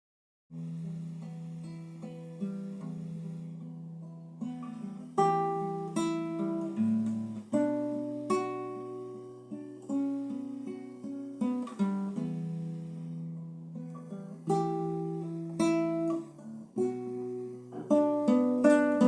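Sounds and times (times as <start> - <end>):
acoustic guitar plucked chords: 0.5 - 19.0.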